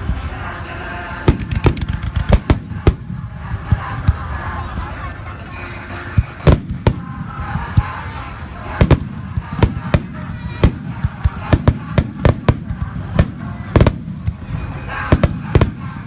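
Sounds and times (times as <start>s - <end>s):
crowd voices: 0.0s - 16.0s
fireworks bursting: 0.0s - 16.0s.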